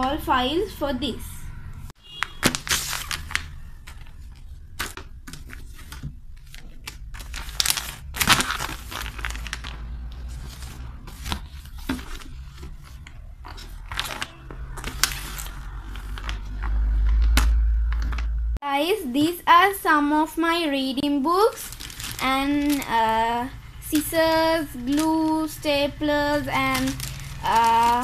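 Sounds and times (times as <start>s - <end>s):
papers and plastic folders rustling: 2.2s - 18.3s, 21.0s - 28.0s.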